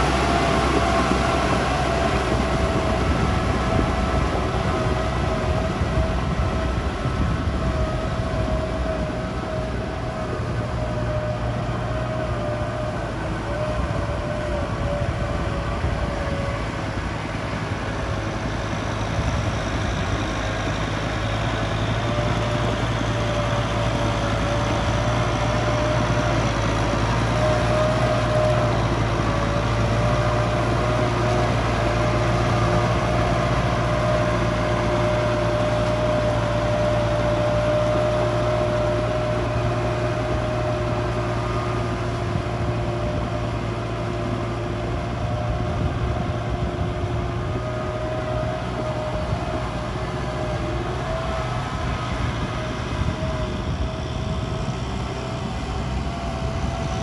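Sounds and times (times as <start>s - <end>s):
tiller churning through water: 0.0s - 57.0s
tractor diesel engine running: 0.0s - 57.0s.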